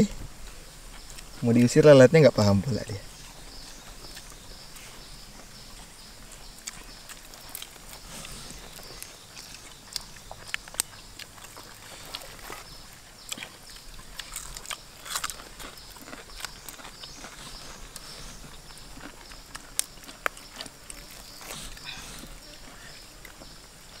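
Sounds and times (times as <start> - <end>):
people chewing and lip smacking: 0.0 - 1.8, 2.9 - 24.0
faint steady hiss: 0.0 - 24.0.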